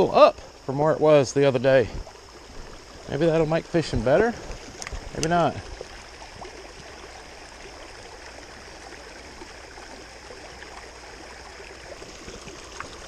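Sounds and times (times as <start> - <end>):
water running over rocky waterfall: 0.0 - 13.0.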